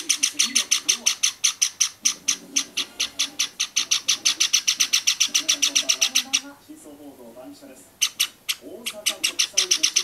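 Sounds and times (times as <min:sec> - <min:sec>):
sparrow chick begging calls: 0:00.0 - 0:06.5, 0:08.0 - 0:10.0.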